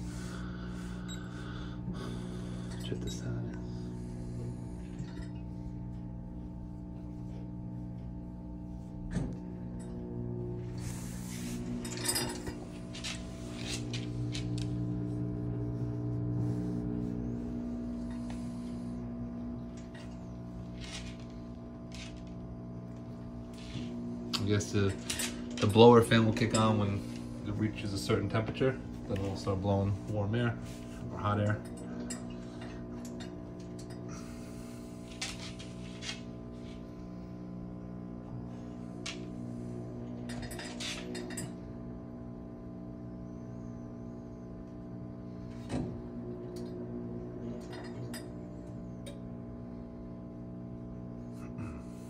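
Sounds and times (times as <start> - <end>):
pellet stove motor hum: 0.0 - 52.0.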